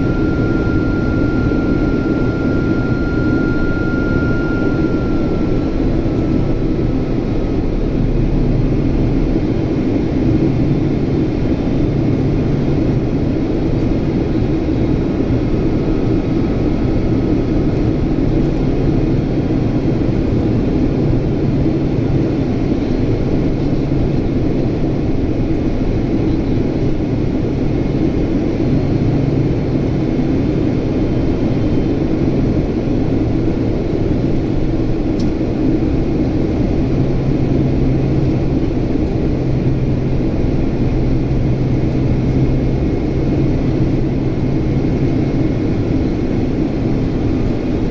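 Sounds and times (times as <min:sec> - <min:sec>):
jet engine cabin drone: 0:00.0 - 0:47.9.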